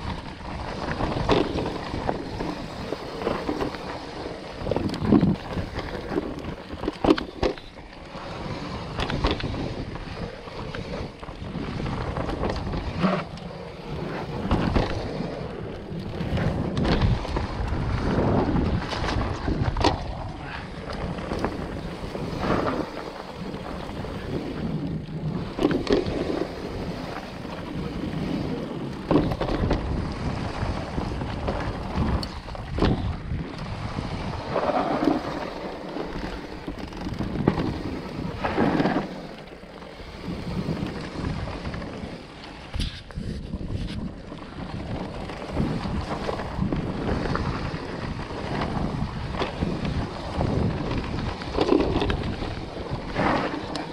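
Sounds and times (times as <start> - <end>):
tyres on dirt trail: 0.0 - 53.9
wind on microphone: 0.0 - 53.9.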